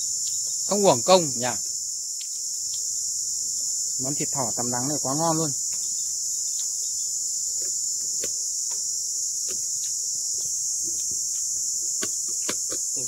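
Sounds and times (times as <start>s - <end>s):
insects buzzing chorus: 0.0s - 13.0s.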